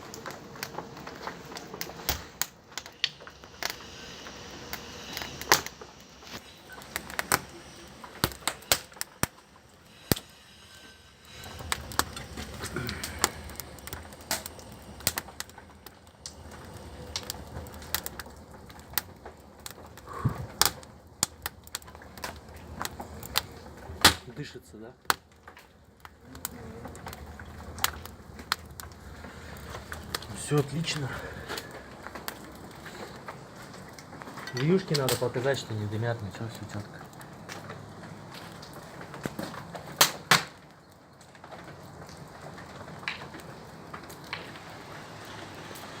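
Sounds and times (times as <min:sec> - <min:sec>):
kindling fire crackling and popping: 0:00.0 - 0:46.0.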